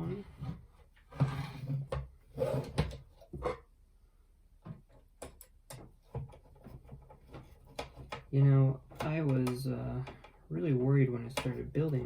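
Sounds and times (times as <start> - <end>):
plastic knocks and scraping: 0.0 - 3.7, 4.6 - 12.0.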